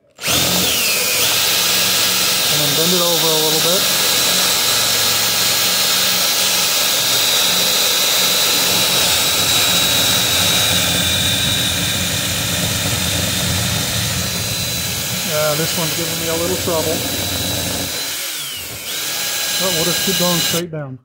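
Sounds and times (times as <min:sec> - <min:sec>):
power drill boring through metal: 0:00.0 - 0:20.6.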